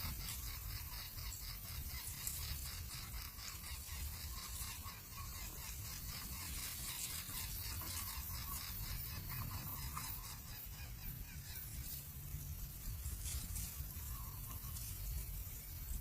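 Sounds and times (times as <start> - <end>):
nestling birds calling: 0.0 - 16.0.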